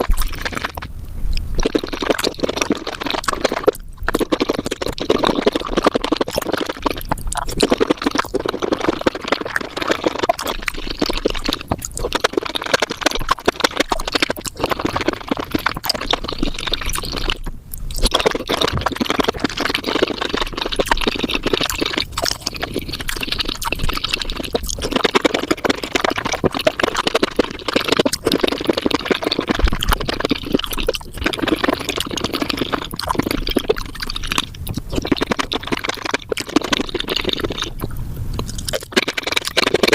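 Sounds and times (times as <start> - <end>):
wet chewing and slurping: 0.0 - 39.9.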